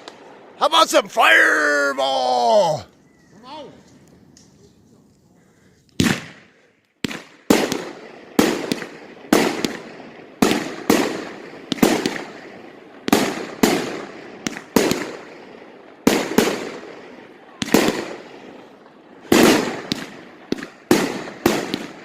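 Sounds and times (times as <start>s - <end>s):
fireworks bangs: 0.0s - 2.5s, 6.0s - 22.0s.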